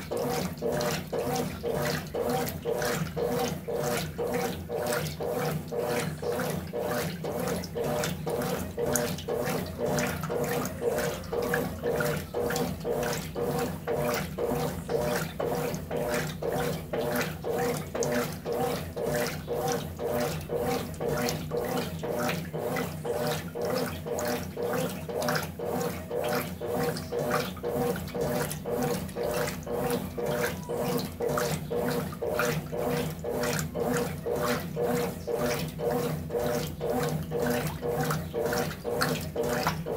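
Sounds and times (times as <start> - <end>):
washing machine hum: 0.0 - 39.9
washing machine water sloshing: 0.0 - 39.9.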